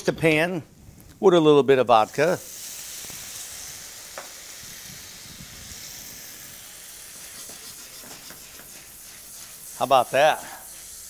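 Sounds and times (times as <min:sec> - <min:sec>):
garlic sizzling in oil in a skillet: 0:01.9 - 0:11.0.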